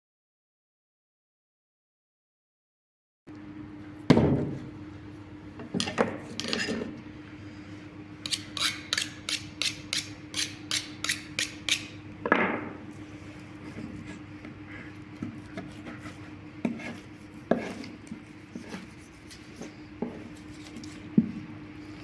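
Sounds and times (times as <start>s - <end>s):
steady low hum: 3.3s - 22.0s.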